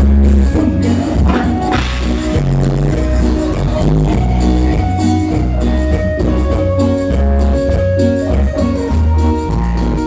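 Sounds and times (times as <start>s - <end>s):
band playing a song: 0.0s - 10.0s
bass line of held low notes: 0.0s - 10.0s.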